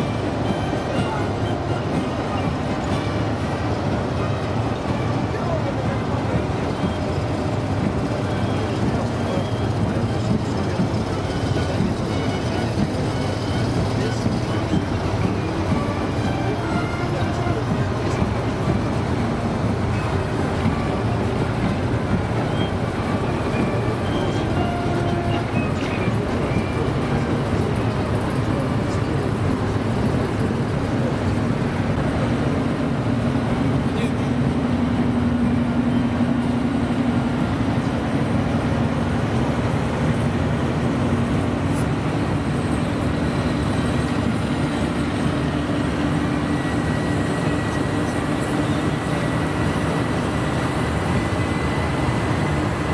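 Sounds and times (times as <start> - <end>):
heavy truck engines droning: 0.0 - 52.9
low engine hum: 0.0 - 52.9.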